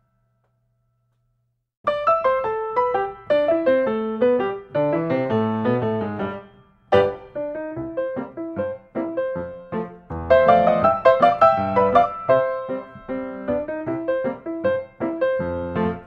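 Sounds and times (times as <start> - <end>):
piano music: 1.9 - 16.0.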